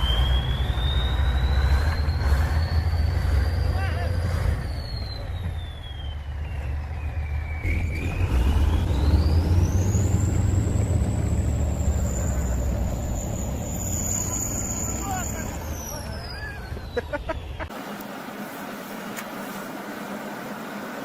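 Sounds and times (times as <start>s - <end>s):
heavy vehicle engine rumbling: 0.0s - 21.0s.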